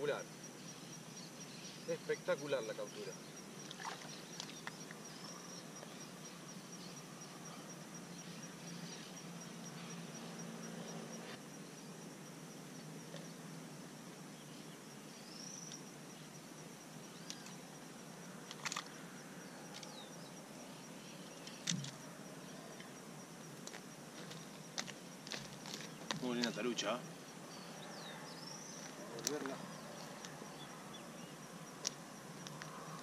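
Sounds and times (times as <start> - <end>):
high-pitched insect trill: 0.0 - 33.0.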